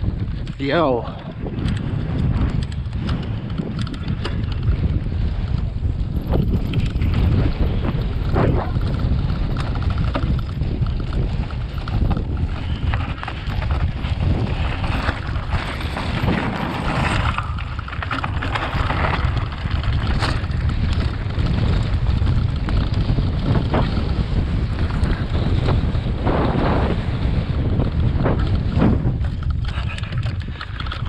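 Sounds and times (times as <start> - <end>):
bike knocking and rattling: 0.0 - 31.0
wind buffeting microphone: 0.0 - 31.0.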